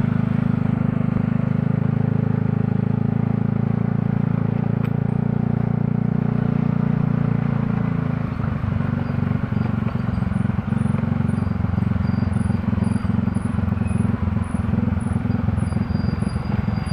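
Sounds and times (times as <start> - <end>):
vehicle engine rumbling: 0.0 - 16.9.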